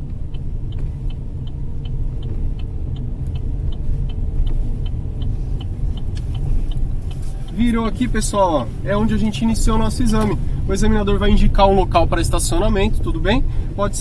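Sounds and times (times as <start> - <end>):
car engine and road noise: 0.0 - 14.0
turn signal ticking: 0.0 - 14.0.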